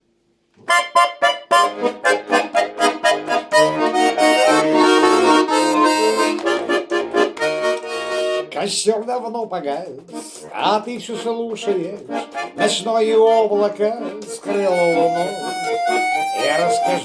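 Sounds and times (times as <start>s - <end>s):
accordion playing chords: 0.6s - 8.8s, 10.0s - 17.0s.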